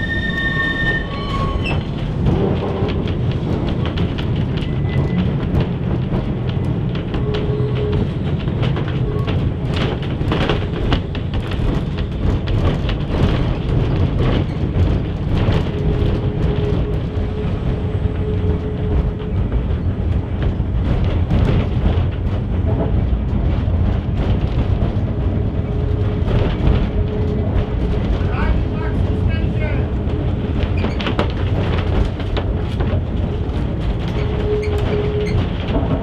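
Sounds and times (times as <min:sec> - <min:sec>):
tram wheels and motors rumbling: 0:00.0 - 0:36.0.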